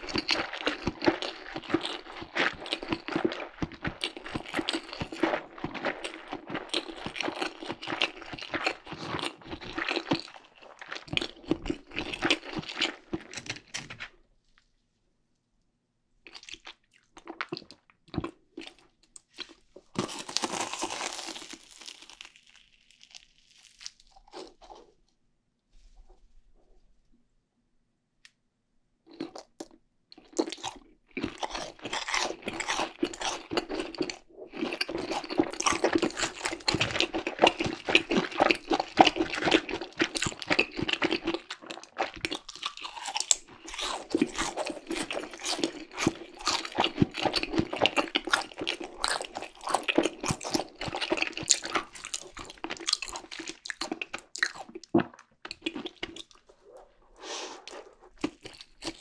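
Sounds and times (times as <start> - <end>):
crunching and chewing fried snack: 0.0 - 14.2, 16.2 - 25.0, 29.1 - 59.0.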